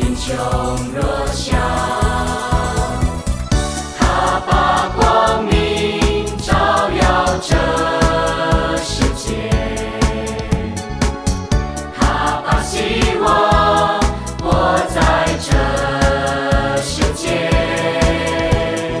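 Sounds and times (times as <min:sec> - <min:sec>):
choir singing over a beat: 0:00.0 - 0:19.0.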